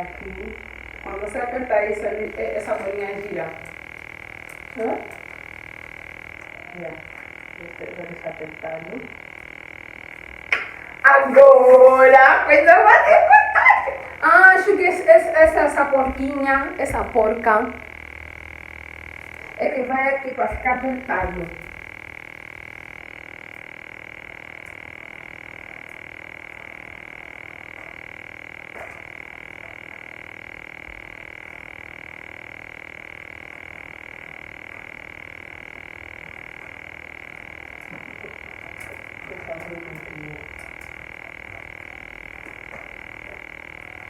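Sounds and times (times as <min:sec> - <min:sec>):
electronic whine and hiss: 0:00.0 - 0:44.0.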